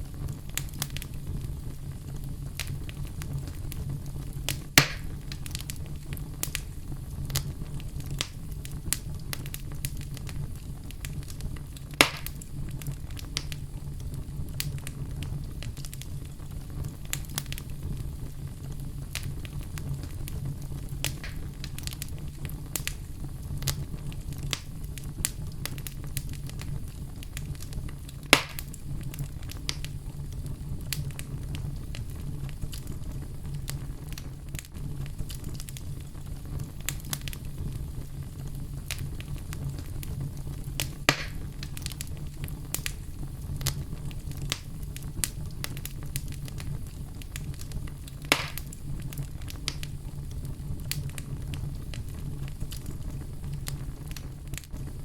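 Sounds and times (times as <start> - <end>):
campfire crackling: 0.0 - 55.0
loud fire snaps: 0.0 - 55.0.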